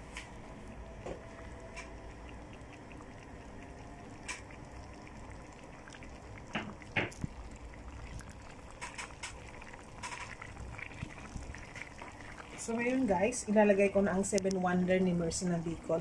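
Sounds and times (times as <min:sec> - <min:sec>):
sauce bubbling in a pan: 0:00.6 - 0:16.0.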